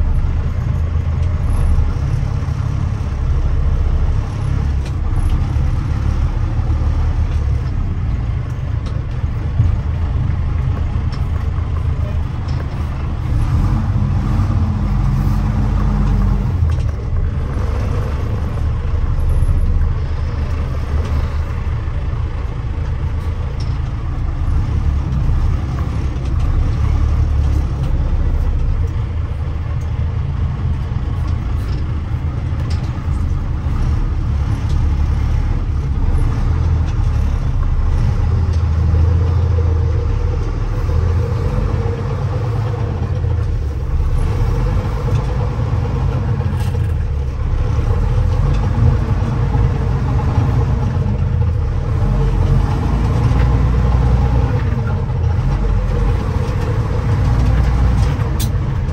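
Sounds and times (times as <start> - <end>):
diesel truck engine drone: 0.0 - 58.9.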